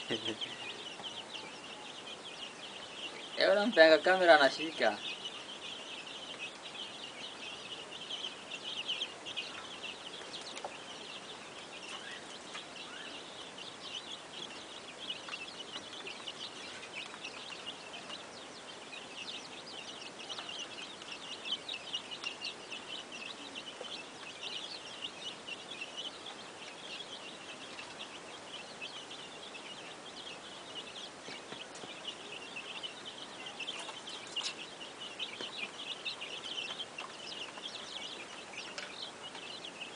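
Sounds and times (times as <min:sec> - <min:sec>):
chickens chirping: 0:00.0 - 0:39.9.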